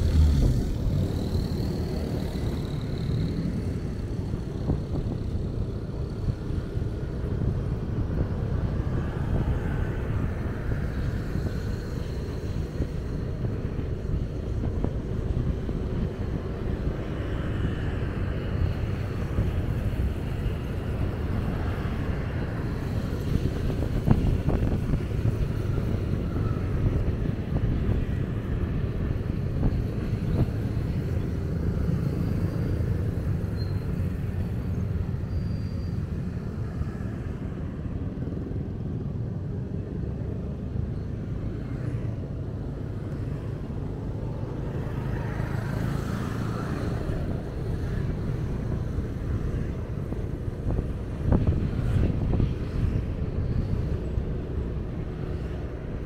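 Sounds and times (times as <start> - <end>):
road noise: 0.0 - 56.0
vehicle engine: 0.0 - 56.0
vehicles passing: 0.0 - 56.0
wind noise: 0.0 - 56.0.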